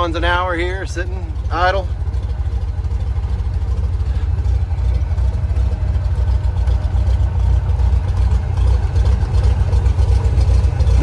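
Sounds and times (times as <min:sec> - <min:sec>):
aircraft engine and propeller idling: 0:00.0 - 0:11.0.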